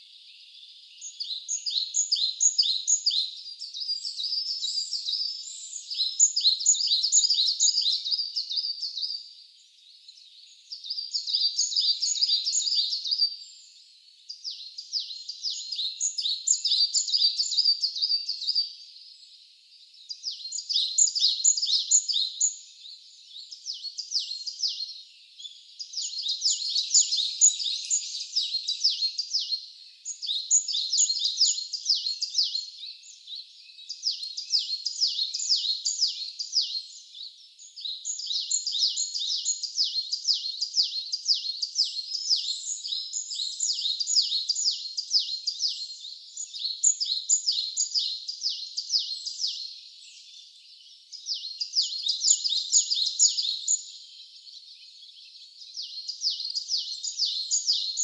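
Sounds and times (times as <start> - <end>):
songbird singing trilled phrases: 0.0 - 58.0.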